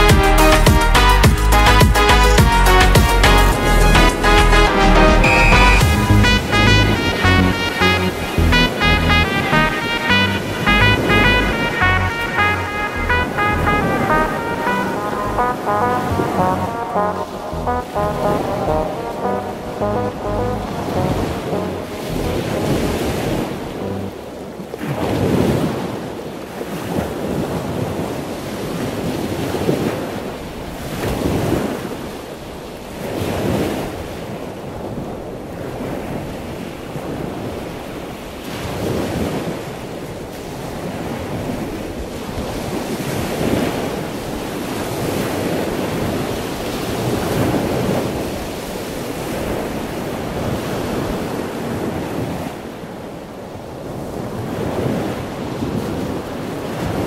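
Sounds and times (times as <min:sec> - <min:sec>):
waves breaking: 0:06.0 - 0:57.0.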